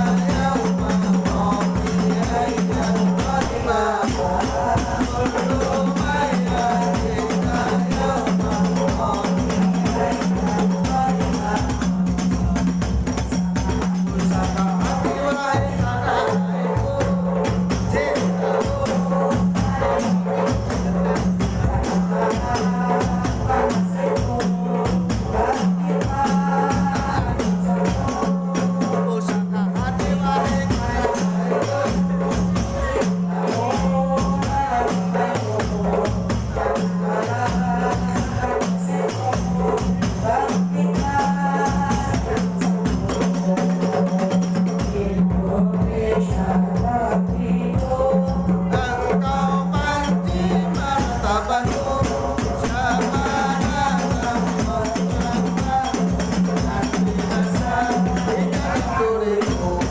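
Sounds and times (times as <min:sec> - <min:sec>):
jingling tambourine-like percussion: 0:00.0 - 0:59.9.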